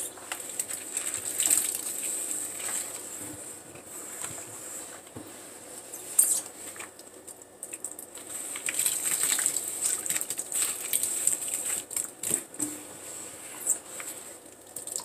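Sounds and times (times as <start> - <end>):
wet foam crackling and squishing: 0.0 - 3.6, 5.9 - 15.0.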